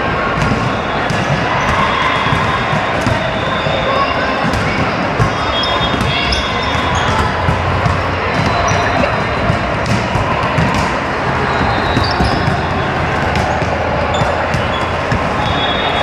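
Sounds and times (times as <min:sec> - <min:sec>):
balls bouncing and struck on court: 0:00.0 - 0:16.0
hubbub of voices: 0:00.0 - 0:16.0.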